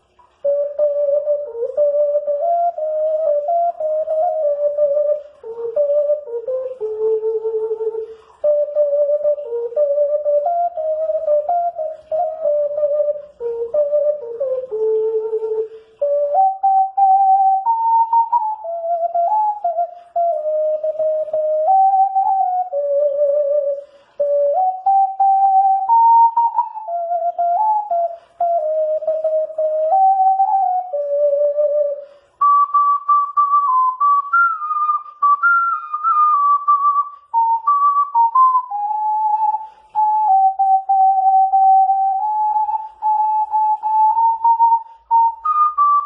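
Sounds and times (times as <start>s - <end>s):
ocarina playing slow melody: 0.0s - 46.0s.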